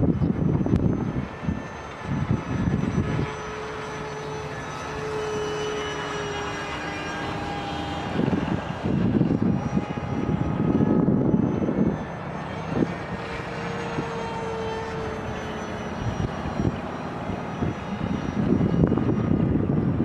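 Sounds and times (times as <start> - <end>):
model plane motor whining: 0.0 - 20.0
wind buffeting microphone: 0.0 - 20.0.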